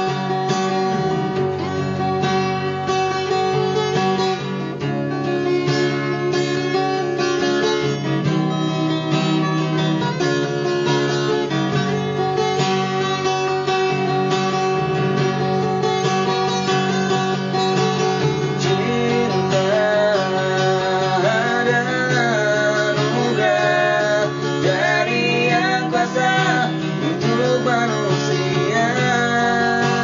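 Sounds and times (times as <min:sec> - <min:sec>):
acoustic guitar playing: 0:00.0 - 0:30.0.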